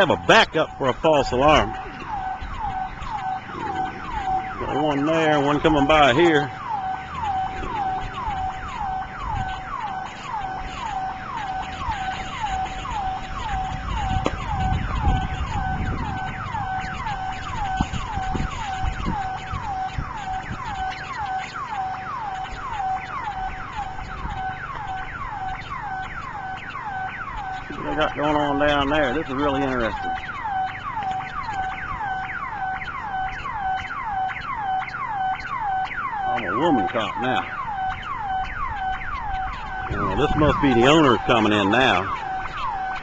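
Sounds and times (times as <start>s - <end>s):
burglar alarm siren: 0.0s - 43.0s
steady alarm tone: 0.0s - 43.0s
wind rumbling on microphone: 0.0s - 43.0s.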